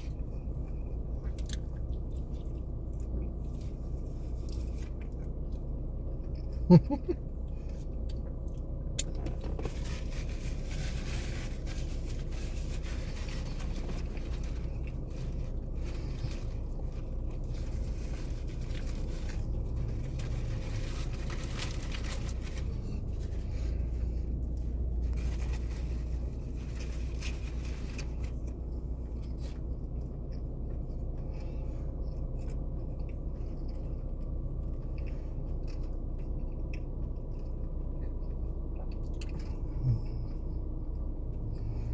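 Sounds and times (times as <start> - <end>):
low hum inside car: 0.0 - 41.9.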